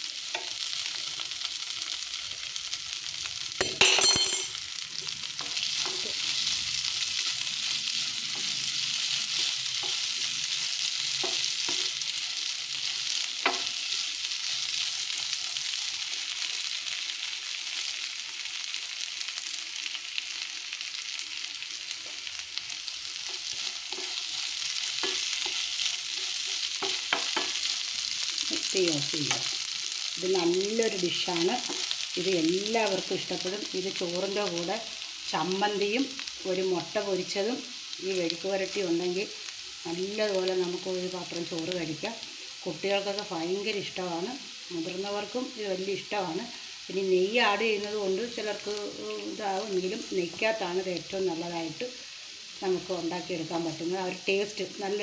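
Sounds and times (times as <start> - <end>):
potatoes sizzling in a pan: 0.0 - 55.0.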